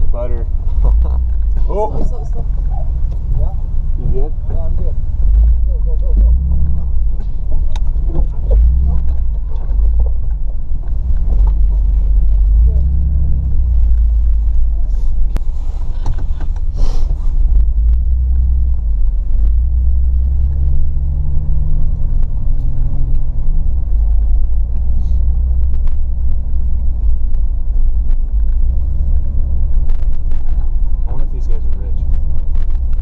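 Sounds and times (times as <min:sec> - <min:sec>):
engine drone and tyre noise: 0:00.0 - 0:33.0.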